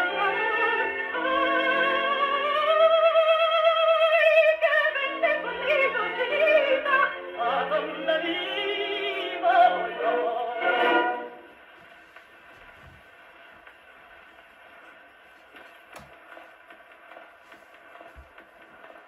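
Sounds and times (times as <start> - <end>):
record surface hiss: 0.0 - 19.0.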